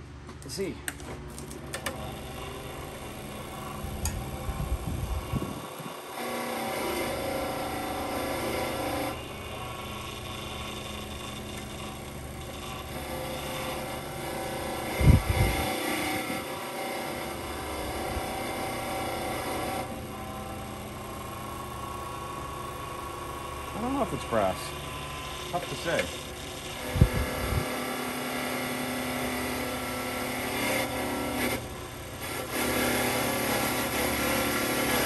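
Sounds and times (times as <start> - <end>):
motor-driven wire brush: 0.6 - 35.0.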